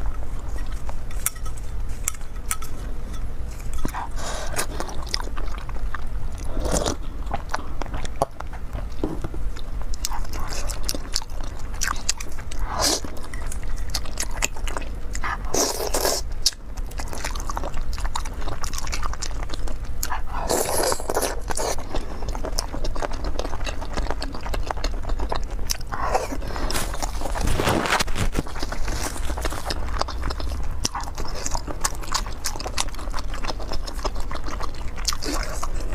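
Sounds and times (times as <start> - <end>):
biting and chewing food: 0.0 - 35.9.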